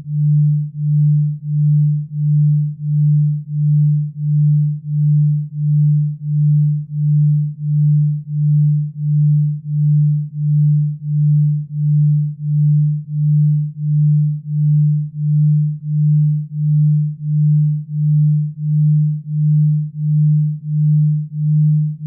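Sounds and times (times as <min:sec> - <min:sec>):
low pulsing synthesized tone: 0:00.0 - 0:22.0.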